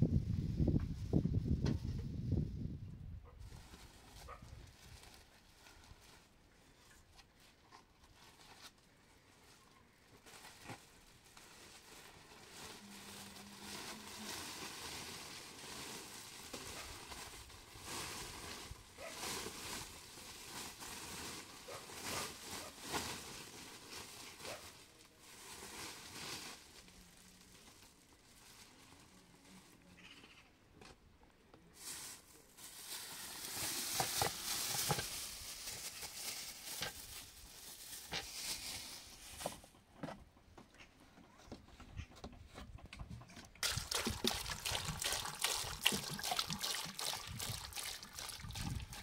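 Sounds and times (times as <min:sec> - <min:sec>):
rustling and crinkling handling noise: 0:03.3 - 0:30.1, 0:30.7 - 0:49.0.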